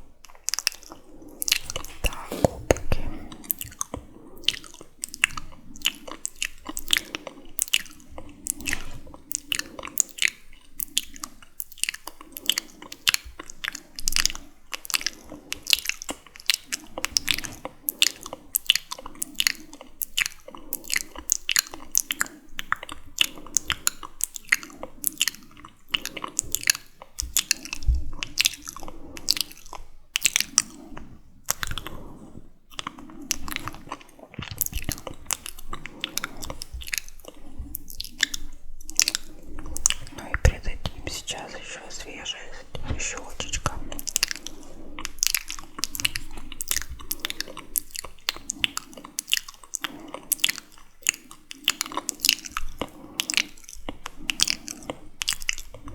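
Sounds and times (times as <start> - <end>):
wet lip and tongue clicks: 0.2 - 32.0, 32.7 - 55.9.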